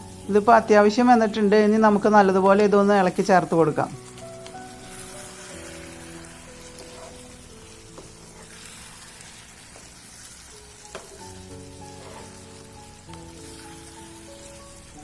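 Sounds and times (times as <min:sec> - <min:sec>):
curry sizzling in a pan: 0:00.0 - 0:15.0
soft background music: 0:00.0 - 0:15.0.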